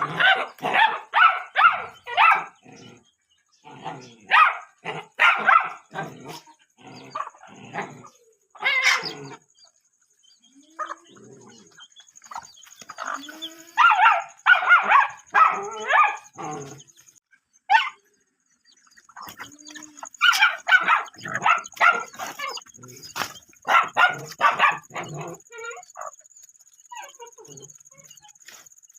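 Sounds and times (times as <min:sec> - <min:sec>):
dogs barking: 0:00.0 - 0:03.0, 0:03.6 - 0:09.5, 0:10.8 - 0:17.1, 0:17.7 - 0:18.1, 0:19.0 - 0:28.8.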